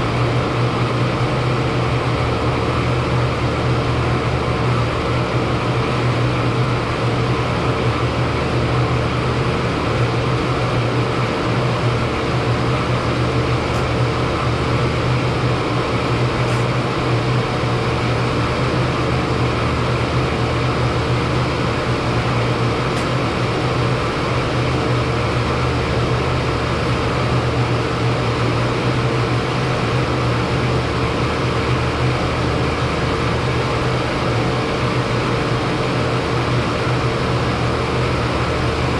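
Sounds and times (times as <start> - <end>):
air conditioning unit humming: 0.0 - 38.9.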